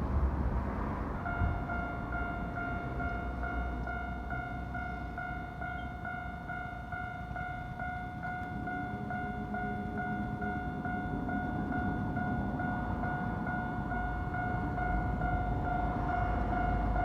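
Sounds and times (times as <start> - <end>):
train rumble: 0.0 - 17.0
level-crossing warning bell: 1.0 - 17.0.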